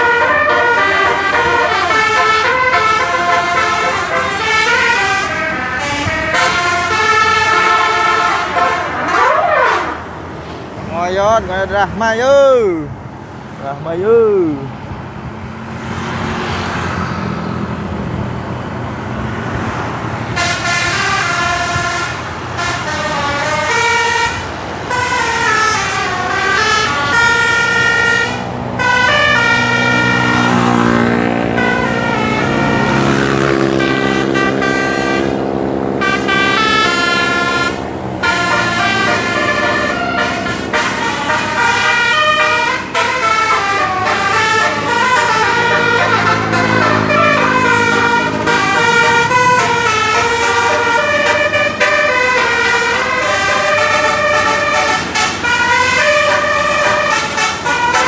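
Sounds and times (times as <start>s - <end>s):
bus air horn playing melodies: 0.0s - 10.5s, 19.4s - 58.0s.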